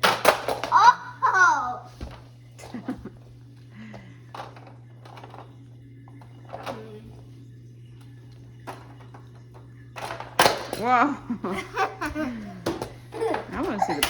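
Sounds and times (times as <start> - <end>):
low hum: 1.0 - 14.0.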